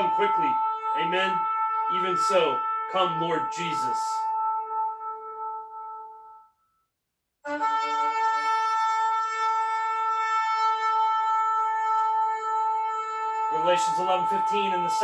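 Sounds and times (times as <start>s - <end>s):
shofar blast: 0.0s - 6.6s, 7.4s - 15.0s.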